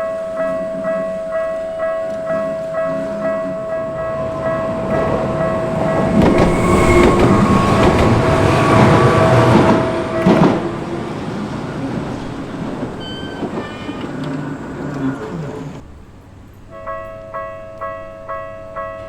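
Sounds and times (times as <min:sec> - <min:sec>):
level-crossing warning bell: 0:00.0 - 0:15.8, 0:16.6 - 0:19.0
train rumbling: 0:00.0 - 0:17.5
wheels clacking over rail joints: 0:00.4 - 0:15.8.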